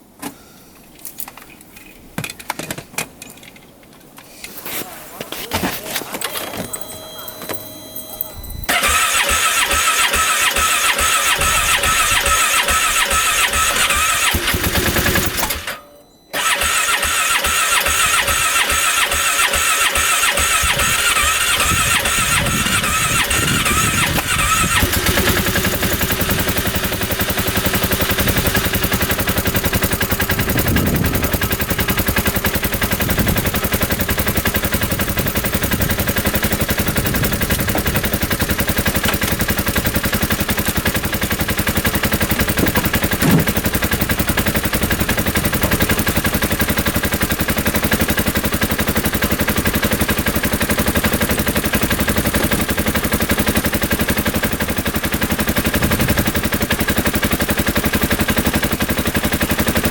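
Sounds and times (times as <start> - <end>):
engine starter cranking: 6.2 - 59.9.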